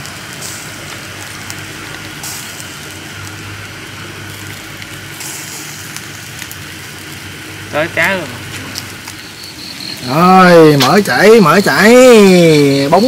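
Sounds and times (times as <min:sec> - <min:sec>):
fish sizzling over charcoal: 0:00.0 - 0:13.0.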